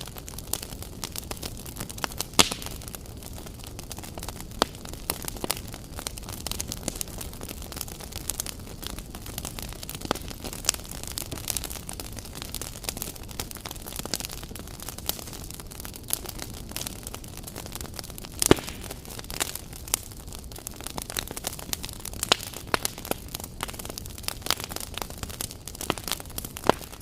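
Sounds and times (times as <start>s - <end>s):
burning logs crackling and popping: 0.0s - 27.0s
campfire low hiss: 0.0s - 27.0s.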